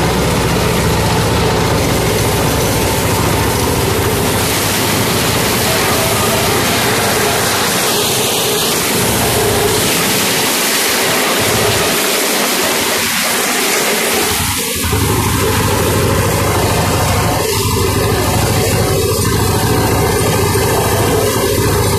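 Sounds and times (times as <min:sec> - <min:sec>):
mower cutting tall grass: 0:00.0 - 0:21.9
tractor diesel engine running: 0:00.0 - 0:21.9.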